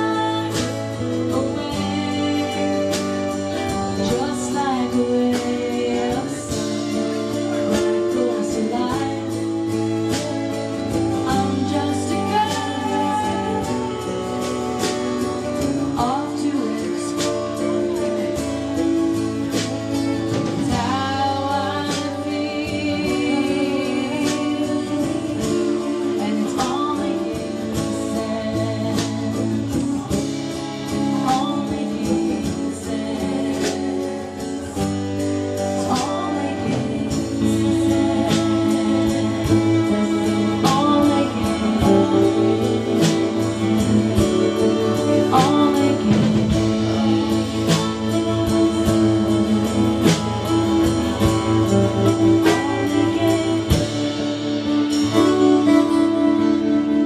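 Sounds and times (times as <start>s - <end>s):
women singing in harmony: 0.0s - 18.6s, 20.3s - 57.0s
acoustic guitar: 0.0s - 57.0s
fiddle: 0.0s - 57.0s.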